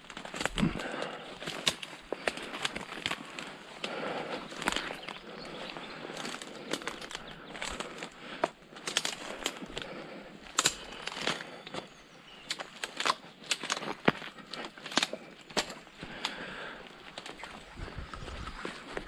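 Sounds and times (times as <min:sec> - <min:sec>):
dry twigs crackling and snapping: 0:00.0 - 0:19.0.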